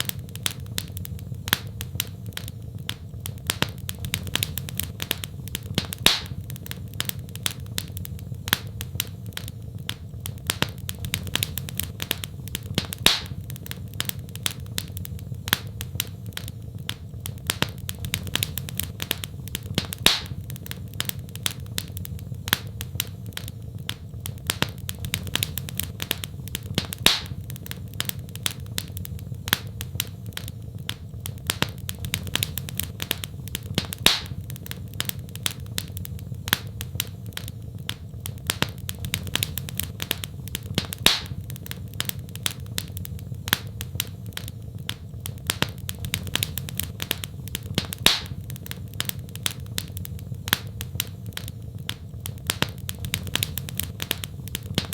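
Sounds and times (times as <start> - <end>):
fire popping: 0.0 - 54.9
low fire rumble: 0.0 - 54.9
wood fire crackling: 0.0 - 54.9.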